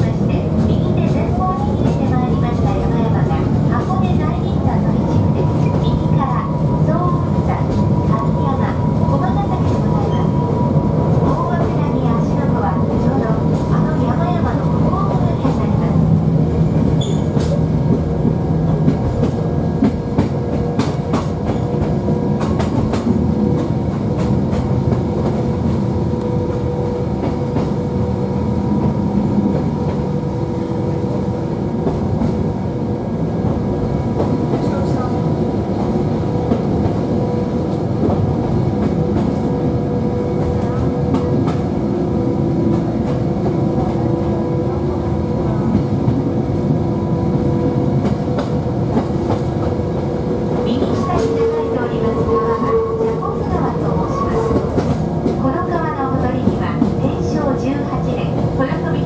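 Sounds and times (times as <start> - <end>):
train rumble and hum: 0.0 - 59.0.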